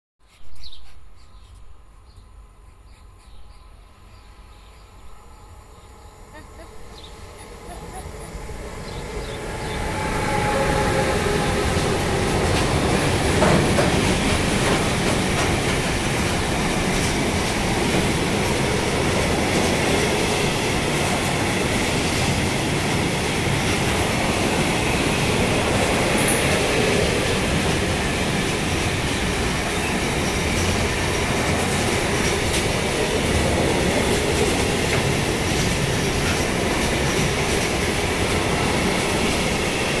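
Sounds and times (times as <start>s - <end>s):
freight train wheels rumbling: 5.5s - 40.0s.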